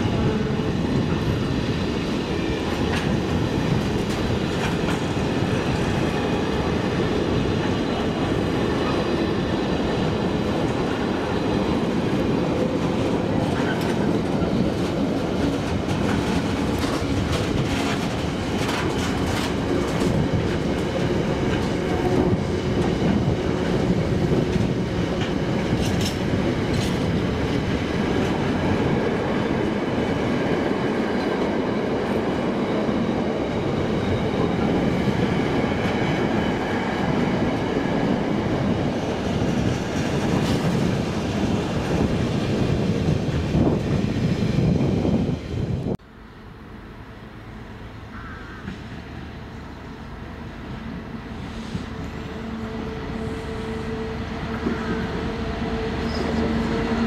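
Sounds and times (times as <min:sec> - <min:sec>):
train wheels clattering on track: 0:00.0 - 0:45.5, 0:48.1 - 0:49.6.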